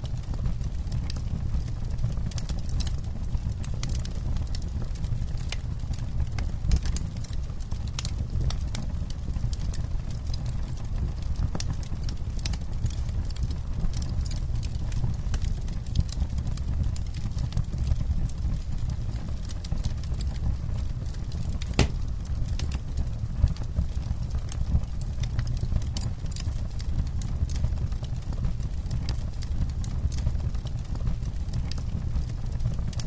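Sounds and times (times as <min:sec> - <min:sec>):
campfire low rumble: 0:00.0 - 0:33.0
fire crackling and popping: 0:00.0 - 0:33.0.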